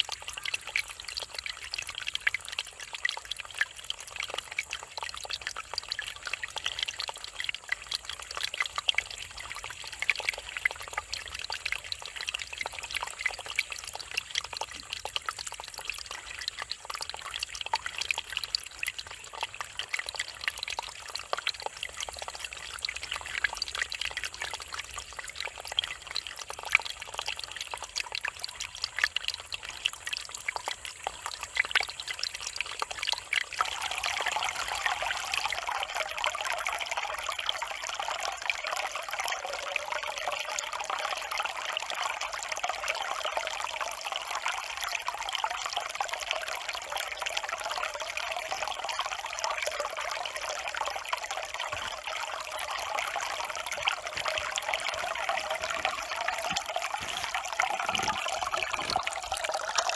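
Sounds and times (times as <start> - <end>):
small splashes and drips: 0.0 - 59.9
stream water running over rocks: 0.0 - 59.9.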